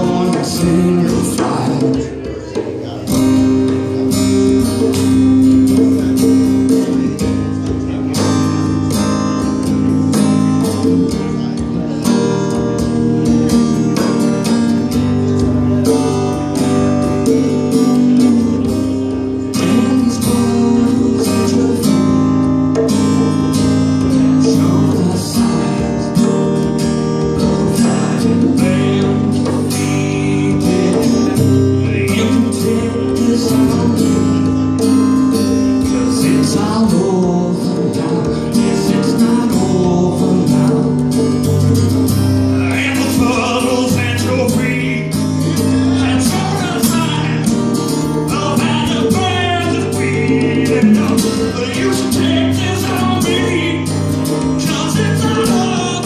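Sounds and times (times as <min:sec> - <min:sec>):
acoustic guitar strumming: 0:00.0 - 0:56.0
conga drums: 0:00.0 - 0:56.0.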